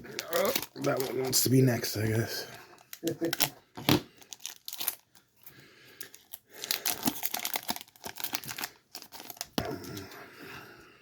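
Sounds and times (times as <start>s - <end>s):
foil wrapper crinkling and tearing: 0.0s - 10.1s.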